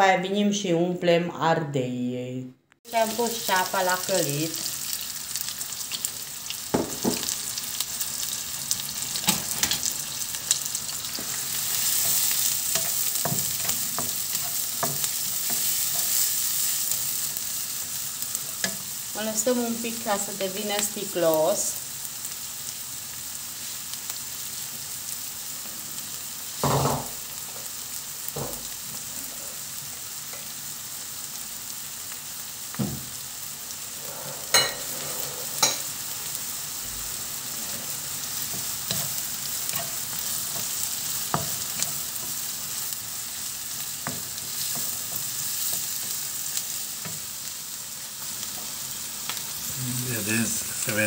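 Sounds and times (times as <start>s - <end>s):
onion sizzling in oil: 2.8s - 51.0s.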